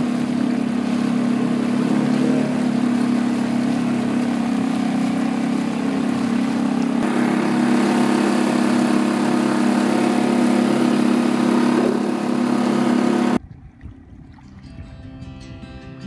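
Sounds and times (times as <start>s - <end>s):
water washing past hull: 0.0s - 14.9s
outboard motor running: 0.0s - 15.0s.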